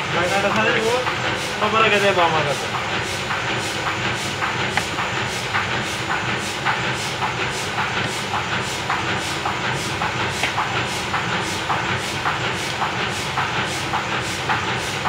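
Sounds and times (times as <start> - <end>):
machine hum: 0.0 - 14.9
printing press clattering: 0.0 - 15.0.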